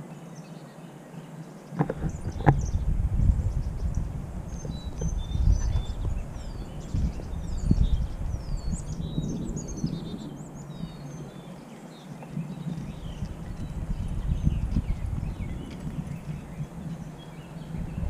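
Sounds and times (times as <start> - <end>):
birds chirping: 0.0 - 18.0
wind rumble on microphone: 1.7 - 18.0.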